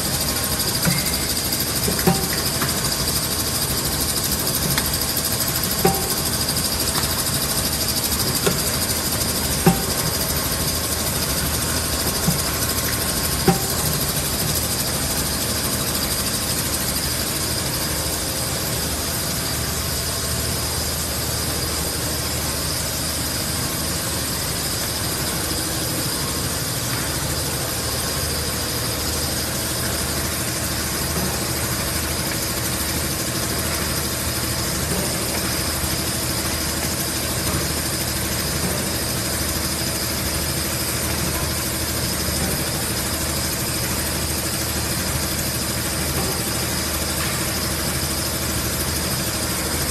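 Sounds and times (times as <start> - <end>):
bottling machine hum: 0.0 - 49.9
high mechanical whine: 0.0 - 49.9.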